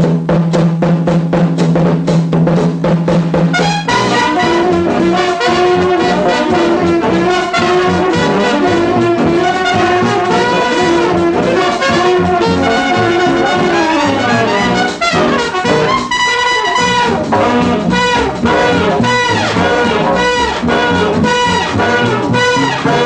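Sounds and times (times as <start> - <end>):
drum beats: 0.0 - 23.0
held low note: 3.6 - 23.0.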